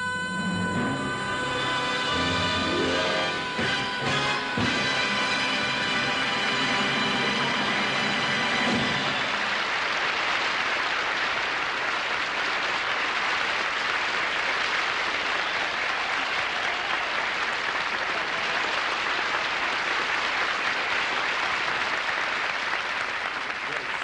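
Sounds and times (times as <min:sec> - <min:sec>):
large audience applauding: 0:02.1 - 0:24.0.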